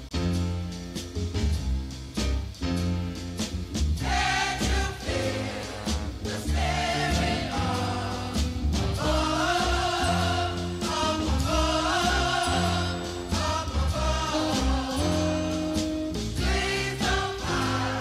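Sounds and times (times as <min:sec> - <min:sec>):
low bass notes: 0:00.0 - 0:18.0.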